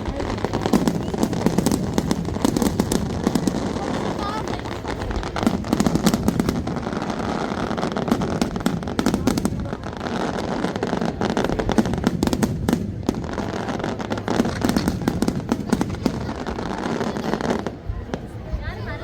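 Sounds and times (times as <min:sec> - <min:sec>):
fireworks crackling and banging: 0:00.0 - 0:19.0
fireworks rumble: 0:00.0 - 0:19.0.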